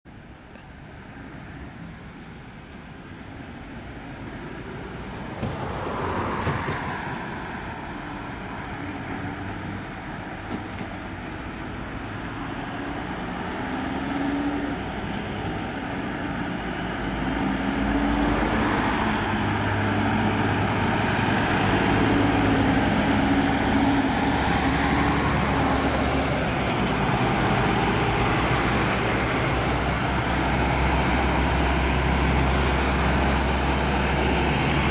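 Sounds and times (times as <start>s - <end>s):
fire trucks driving past: 0.1s - 34.9s
road and tyre noise: 0.1s - 34.9s.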